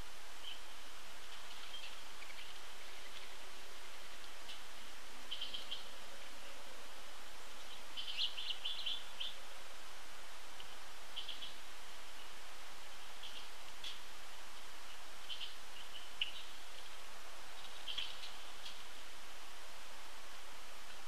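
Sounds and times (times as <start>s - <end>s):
steady background hiss: 0.0s - 21.0s
wild birds chirping: 0.0s - 21.0s.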